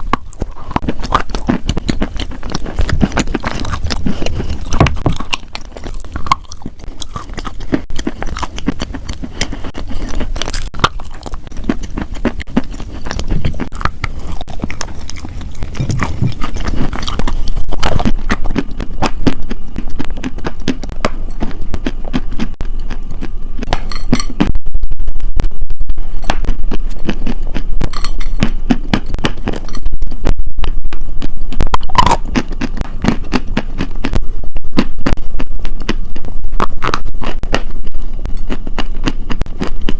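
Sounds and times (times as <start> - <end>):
chewing crunchy food: 0.0 - 24.5, 26.1 - 39.9.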